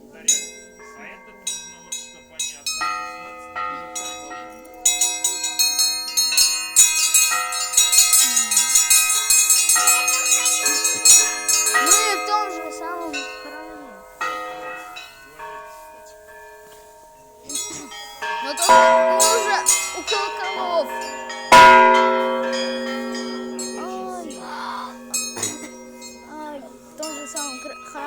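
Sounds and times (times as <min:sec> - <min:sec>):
church bells jangling: 0:00.0 - 0:28.0.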